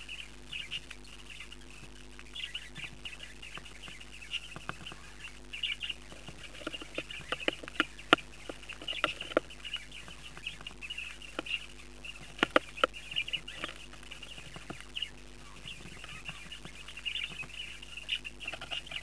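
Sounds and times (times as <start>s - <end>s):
birds tapping and scratching: 0.0s - 19.0s
chicks cheeping: 0.0s - 19.0s.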